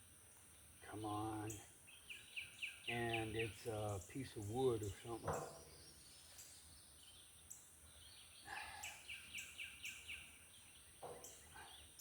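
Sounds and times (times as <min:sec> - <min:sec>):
bird chirping: 0:00.0 - 0:12.0
faint outdoor hiss: 0:00.0 - 0:12.0.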